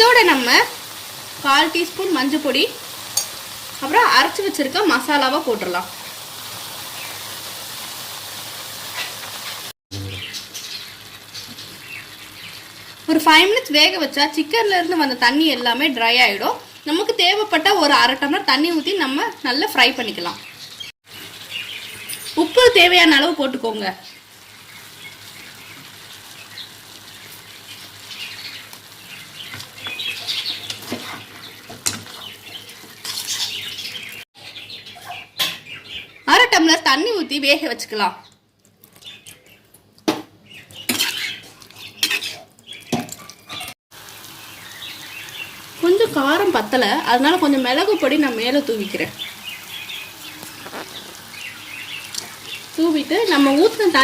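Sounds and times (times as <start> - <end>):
chicken sizzling in hot oil: 0.0 - 37.1, 40.0 - 54.0.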